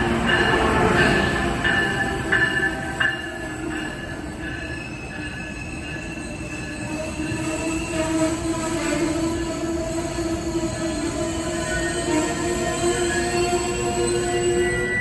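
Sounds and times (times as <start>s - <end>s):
train high whine: 0.0s - 15.0s.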